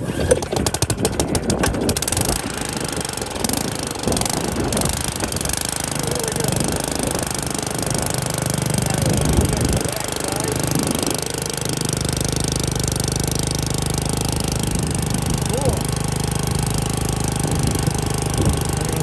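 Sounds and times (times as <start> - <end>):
small tiller engine running rough: 0.0 - 19.0.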